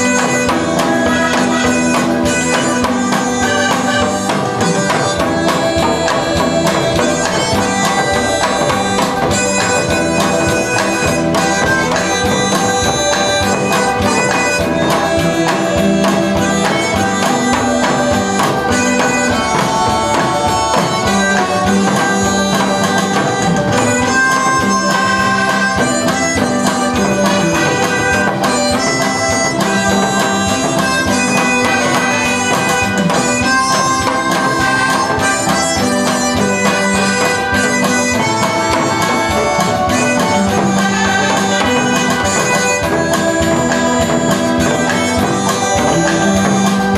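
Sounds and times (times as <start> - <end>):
hand drum beating: 0.0 - 46.9
harmonica melody: 0.0 - 46.9.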